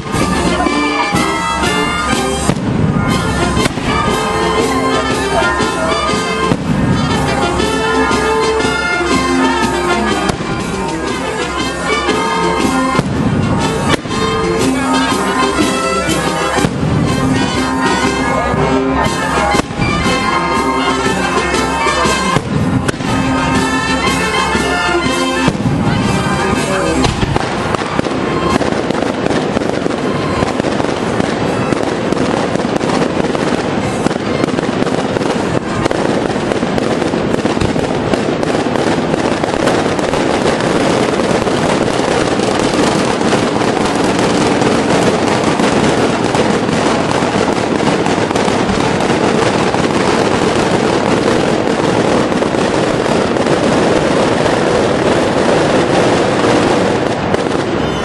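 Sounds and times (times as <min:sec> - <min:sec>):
brass band playing: 0:00.0 - 0:58.0
firecrackers banging: 0:00.0 - 0:58.0.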